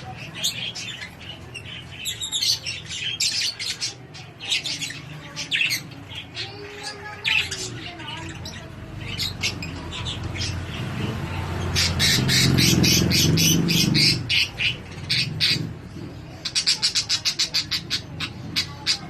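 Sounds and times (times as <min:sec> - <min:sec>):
cockatiels squawking: 0:00.0 - 0:19.0.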